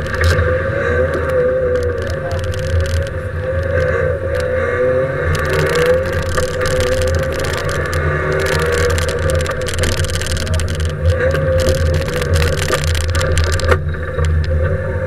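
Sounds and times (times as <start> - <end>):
tyre and road noise on wet road: 0.0 - 15.0.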